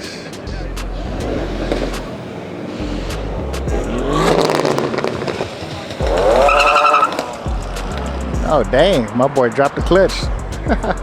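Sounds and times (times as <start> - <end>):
background music: 0.0 - 11.0
car engine revving hard: 0.0 - 11.0.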